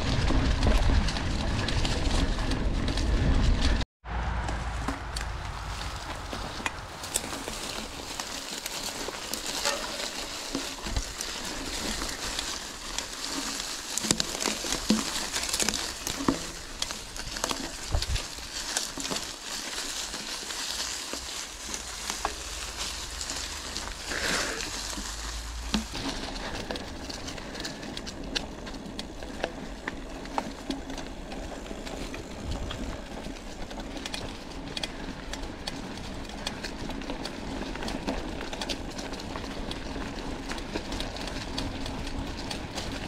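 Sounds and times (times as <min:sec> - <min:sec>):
bike tyres crunching leaves: 0:00.0 - 0:43.0
bike knocking over bumps: 0:04.4 - 0:43.0.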